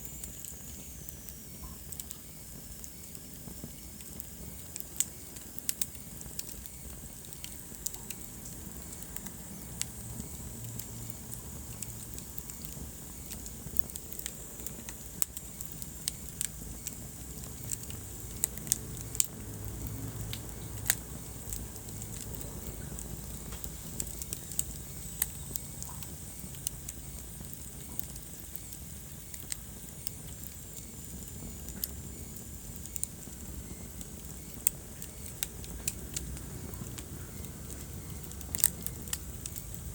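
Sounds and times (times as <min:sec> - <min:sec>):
low rush of flames: 0:00.0 - 0:39.9
wood fire pops and snaps: 0:00.0 - 0:39.9.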